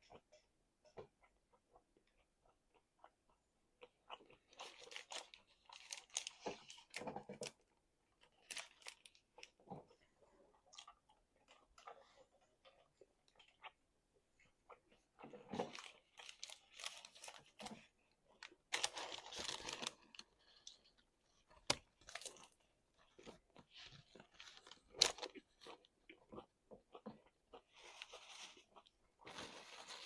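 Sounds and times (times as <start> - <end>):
chewing and crunching food: 0.0 - 30.0.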